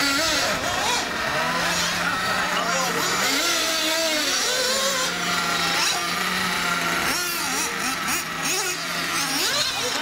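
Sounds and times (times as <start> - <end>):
model car motors whining: 0.0 - 10.0.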